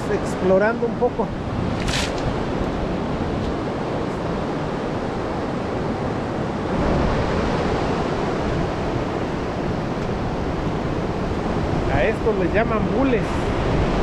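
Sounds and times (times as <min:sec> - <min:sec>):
ocean surf breaking: 0:00.0 - 0:14.0
wind on microphone: 0:00.0 - 0:14.0.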